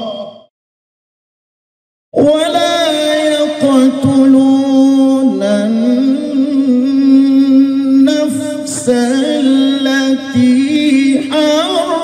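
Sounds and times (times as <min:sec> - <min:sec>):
man chanting melodically: 0:02.1 - 0:12.0.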